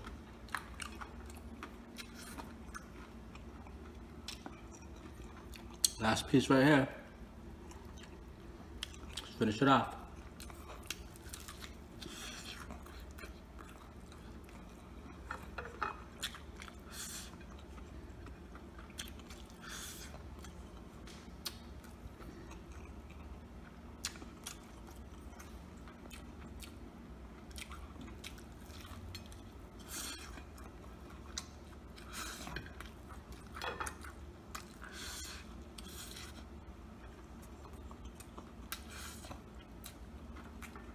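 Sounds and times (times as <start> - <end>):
crunching and chewing: 0.0 - 6.2, 7.4 - 40.9.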